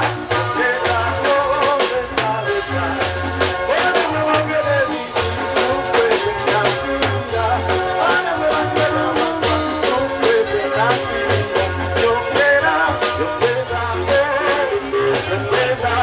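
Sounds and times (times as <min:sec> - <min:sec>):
bass line: 0:00.0 - 0:16.0
drum kit beat: 0:00.0 - 0:16.0
electric guitar: 0:00.0 - 0:16.0
man singing into microphone: 0:00.0 - 0:16.0.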